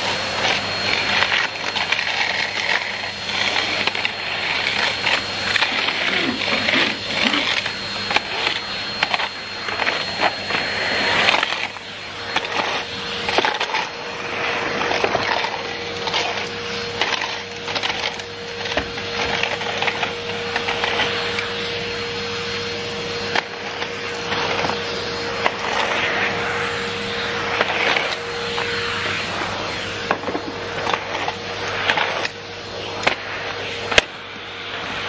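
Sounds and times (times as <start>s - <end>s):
grit crackling in vacuum: 0.0s - 35.0s
vacuum cleaner motor whine: 0.0s - 35.0s.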